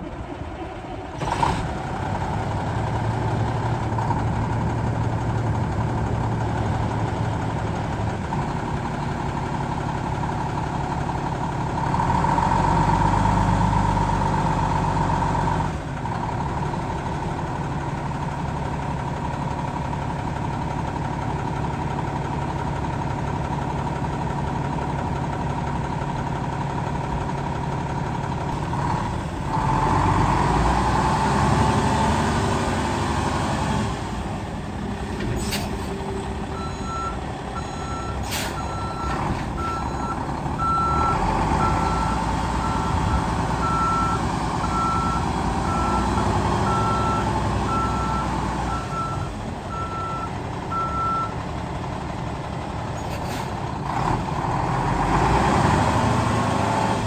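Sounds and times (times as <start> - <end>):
diesel truck engine idling: 0.0 - 30.8, 33.9 - 55.3.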